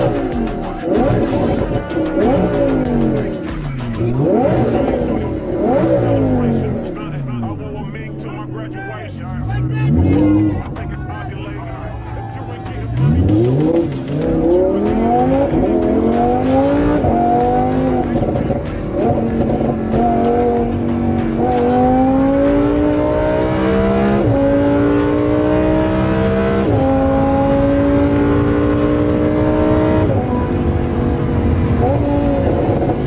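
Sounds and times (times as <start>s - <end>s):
sports car accelerating hard: 0.0s - 8.5s, 9.2s - 33.0s.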